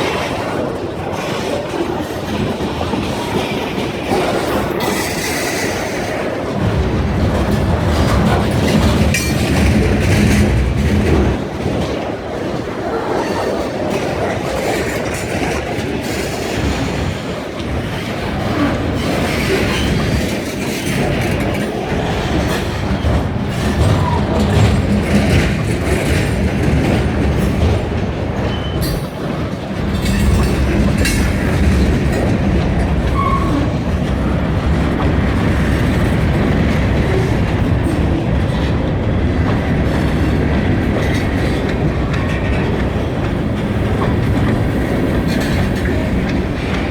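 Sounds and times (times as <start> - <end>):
freight train clattering over rails: 0.0 - 46.9.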